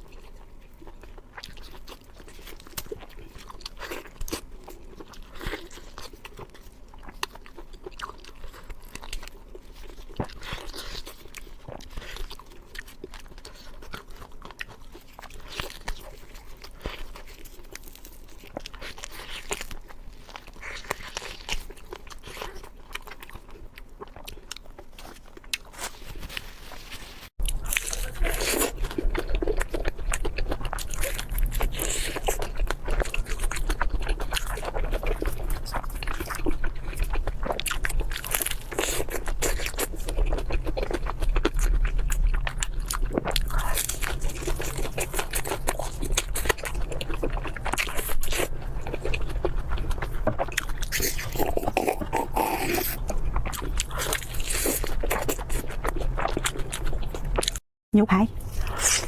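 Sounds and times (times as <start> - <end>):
crunching and chewing mouth sounds: 0.0 - 57.6, 58.3 - 59.0.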